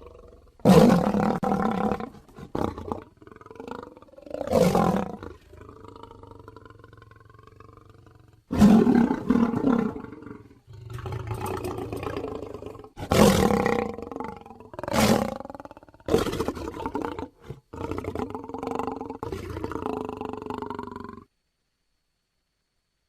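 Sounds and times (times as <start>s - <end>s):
lion roaring: 0.0s - 21.3s.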